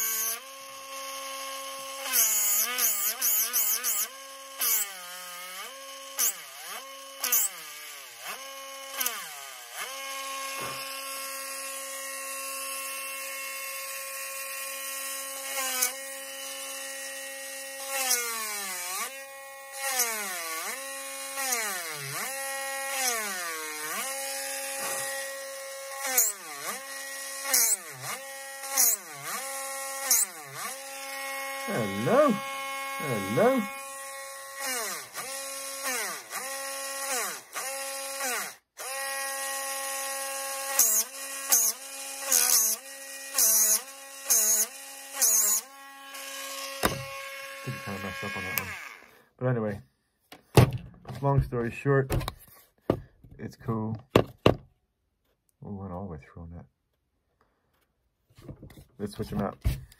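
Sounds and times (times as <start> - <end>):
rotary tool motor whine: 0.0 - 49.2.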